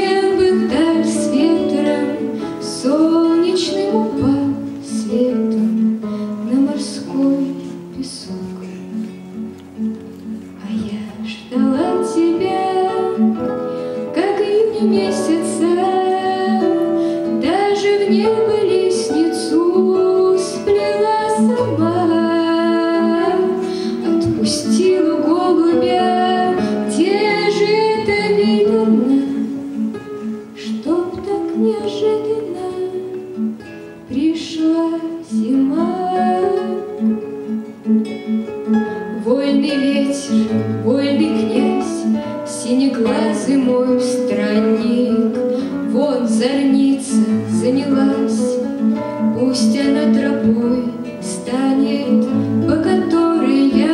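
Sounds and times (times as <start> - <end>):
classical guitar: 0.0 - 53.9
second guitar: 0.0 - 53.9
woman singing: 0.0 - 53.9.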